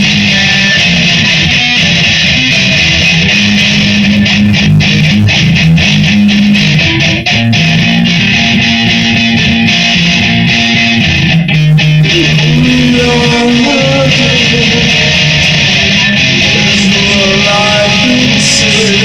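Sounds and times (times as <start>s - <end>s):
electric guitar strumming chords: 0.0s - 19.0s.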